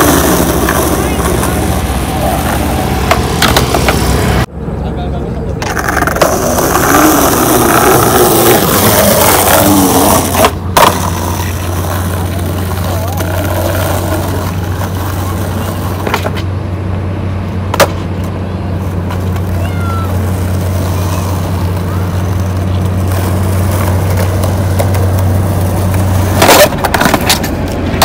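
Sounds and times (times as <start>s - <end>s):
skateboard clacks: 0.0s - 4.2s, 5.6s - 16.5s, 17.7s - 28.0s
skateboard rolling on concrete: 0.0s - 4.5s, 5.2s - 28.0s.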